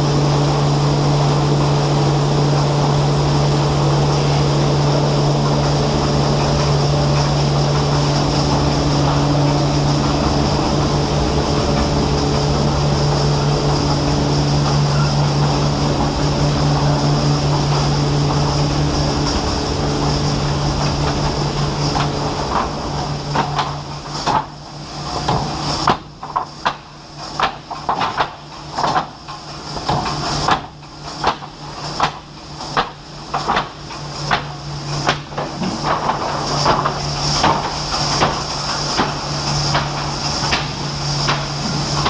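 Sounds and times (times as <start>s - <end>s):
industrial machinery humming: 0.0s - 42.0s.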